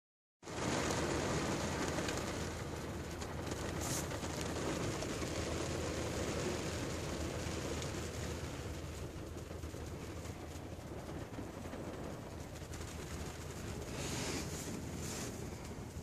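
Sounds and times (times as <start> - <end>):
rain on car windscreen: 0.4 - 16.0.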